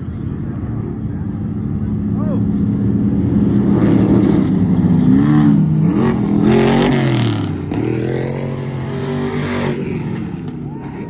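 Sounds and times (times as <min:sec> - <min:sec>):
truck engine revving by: 0:02.0 - 0:11.0.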